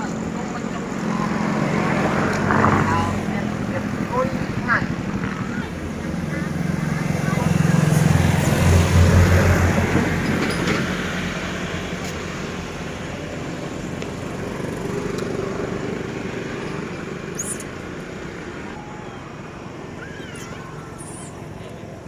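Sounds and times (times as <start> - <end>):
vehicle engine: 0.0 - 22.0.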